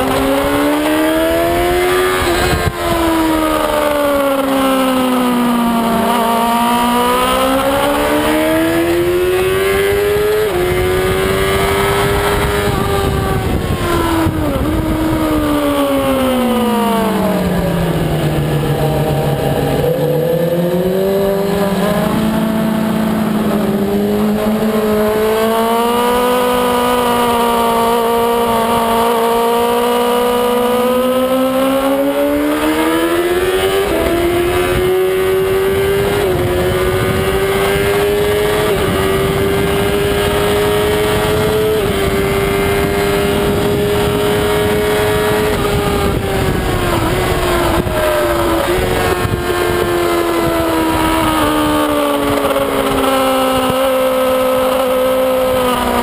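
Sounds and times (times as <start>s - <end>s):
racing motorcycle engine: 0.0s - 56.0s
wind noise: 0.0s - 56.0s.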